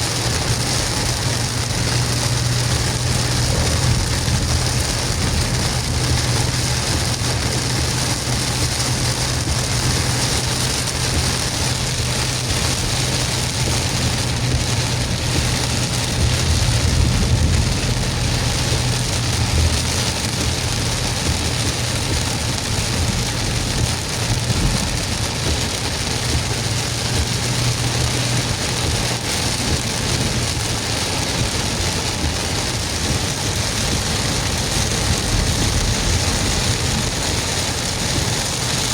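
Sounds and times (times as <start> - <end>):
car engine and road hum: 0.0 - 38.9
rain hissing: 0.0 - 38.9.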